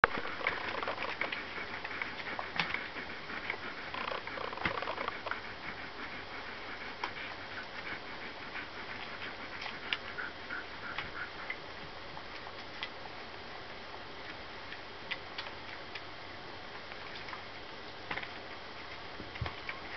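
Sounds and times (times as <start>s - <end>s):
puppies suckling: 0.0s - 19.9s.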